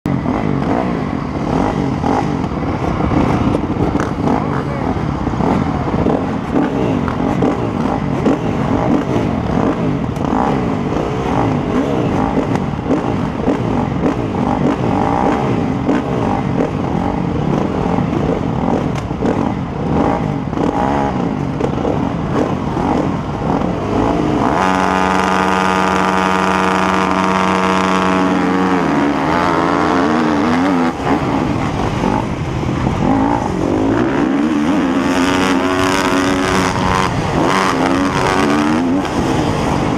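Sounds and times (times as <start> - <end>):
motocross bike engines revving: 0.1 - 39.9.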